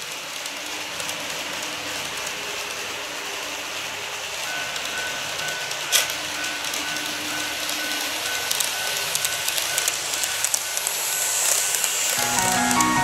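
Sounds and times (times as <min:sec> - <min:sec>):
model train wheels rolling: 0:00.0 - 0:13.0
rail joint clicks: 0:00.0 - 0:13.0.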